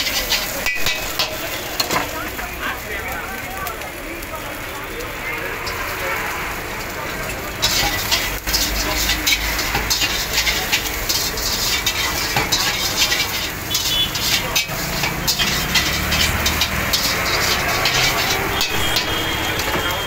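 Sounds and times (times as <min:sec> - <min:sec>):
metal spatula scraping a wok: 0:00.0 - 0:02.4, 0:05.6 - 0:20.0
food sizzling: 0:00.0 - 0:20.0
gas burner flame rushing: 0:00.0 - 0:20.0.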